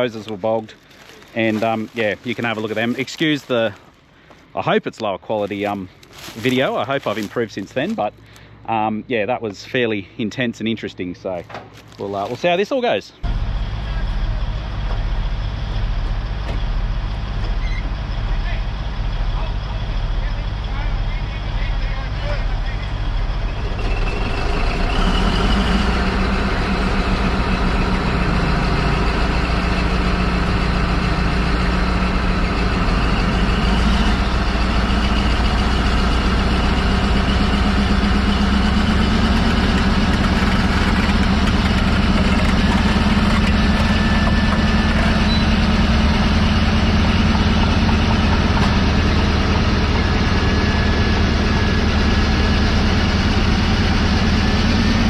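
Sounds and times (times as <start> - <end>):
bulldozer diesel engines droning: 0.0 - 55.0.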